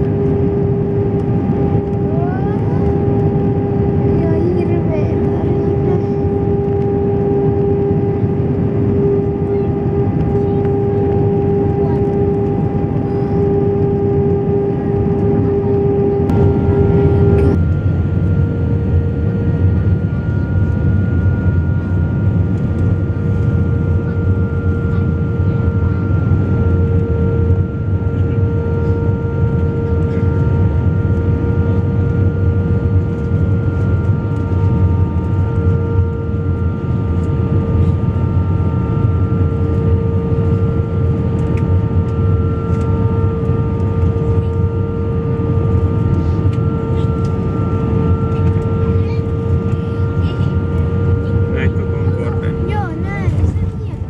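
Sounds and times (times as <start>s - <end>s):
deep rumble of aircraft engines: 0.0s - 54.0s
steady whining tones: 0.0s - 54.0s.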